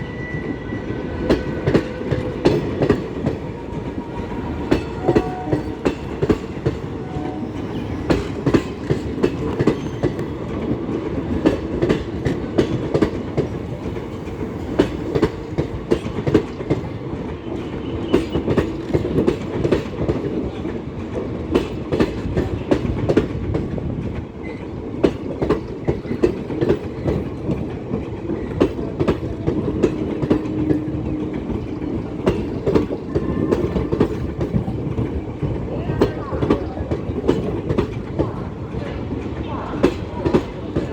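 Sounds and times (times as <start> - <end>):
passenger train rumbling past: 0.0 - 40.9
train wheels clicking over rail joints: 1.2 - 40.9.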